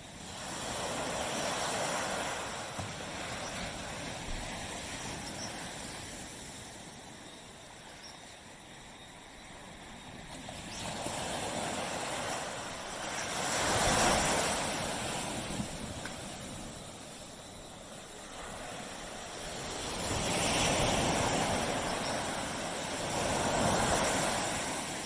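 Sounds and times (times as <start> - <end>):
sea waves washing onto beach: 0.0 - 7.7, 8.5 - 25.0.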